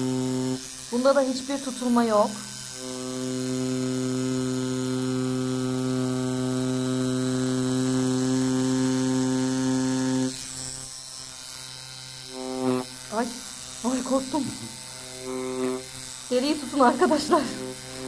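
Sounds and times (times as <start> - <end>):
tattoo machine humming: 0.0 - 18.0.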